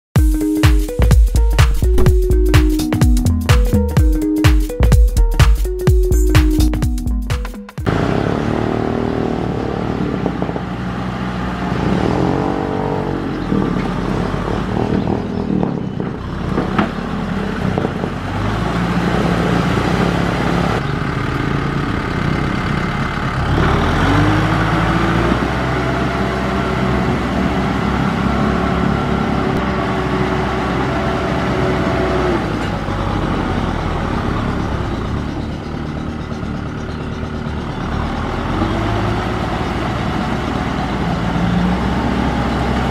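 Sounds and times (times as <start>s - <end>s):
tractor diesel engine under load: 4.9s - 42.9s.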